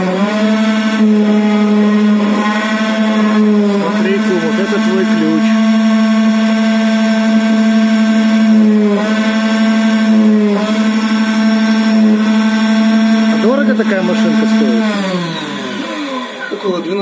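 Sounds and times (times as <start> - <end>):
key-cutting machine whining: 0.0 - 17.0.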